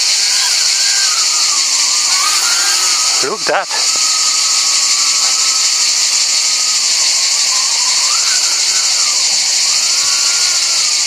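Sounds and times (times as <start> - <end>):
drone motors whining: 0.0 - 11.0
steady high hiss: 0.0 - 11.0.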